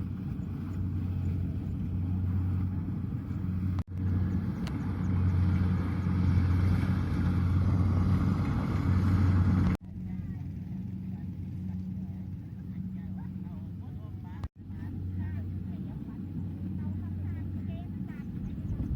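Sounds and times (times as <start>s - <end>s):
combine harvester diesel engine: 0.0s - 18.9s.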